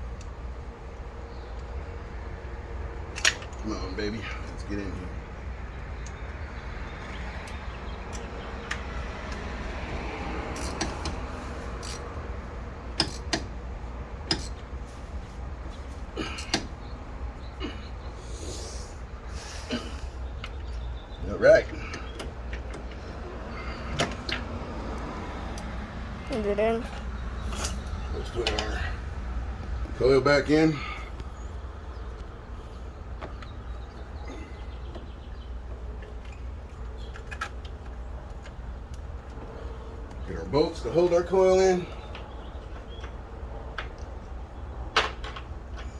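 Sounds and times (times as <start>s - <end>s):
low background rumble: 0.0s - 44.9s.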